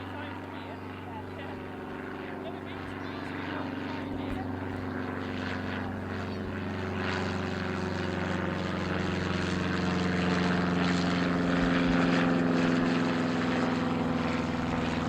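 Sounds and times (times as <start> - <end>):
aircraft engines droning: 0.0 - 15.0.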